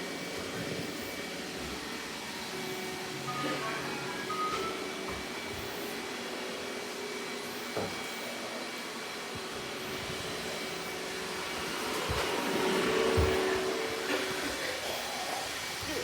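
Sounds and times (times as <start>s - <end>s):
robot vacuum whirring: 0.6s - 16.0s.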